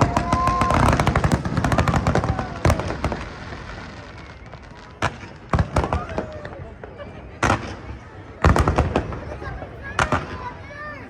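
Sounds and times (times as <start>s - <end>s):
firework bangs: 0.0s - 11.0s
fireworks crackling: 0.0s - 11.0s.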